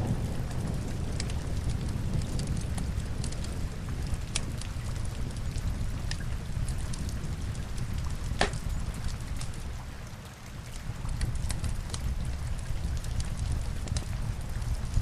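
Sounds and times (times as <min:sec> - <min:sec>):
log fire crackling: 0:00.0 - 0:15.0
rain rumble and hiss: 0:00.0 - 0:15.0.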